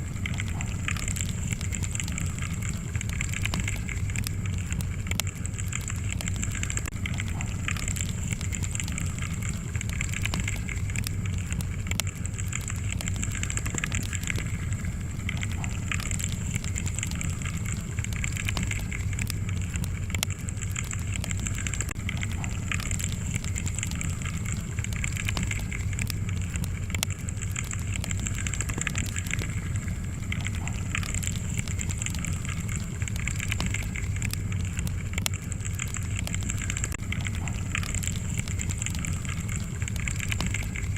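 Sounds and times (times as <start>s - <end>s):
fire pops and snaps: 0.0s - 40.9s
roar of flames: 0.0s - 40.9s.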